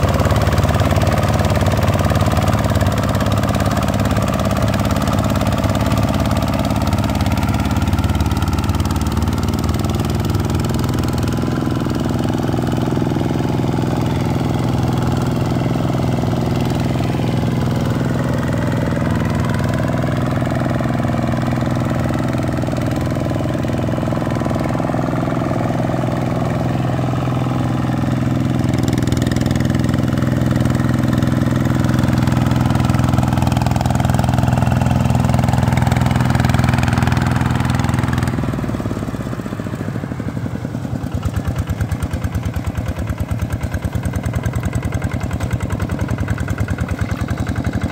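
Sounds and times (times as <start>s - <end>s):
diesel engine running under load: 0.0s - 47.9s
wheels churning through mud: 0.0s - 47.9s.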